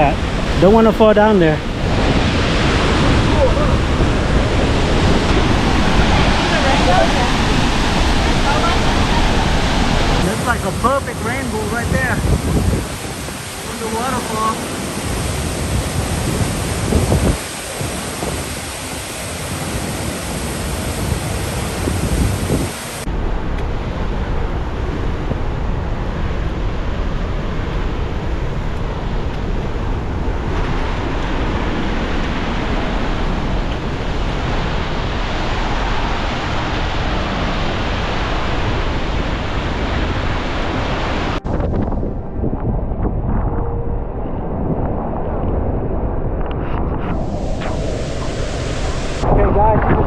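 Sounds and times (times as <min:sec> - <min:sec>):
waterfall roaring: 0:00.0 - 0:41.6, 0:47.2 - 0:49.4
wind buffeting microphone: 0:00.0 - 0:50.0.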